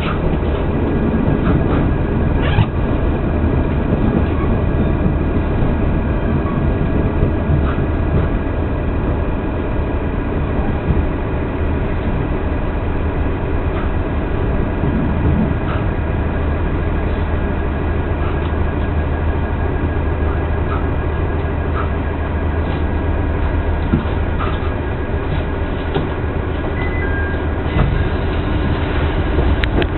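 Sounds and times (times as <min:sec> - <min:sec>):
train running hum: 0:00.0 - 0:29.9.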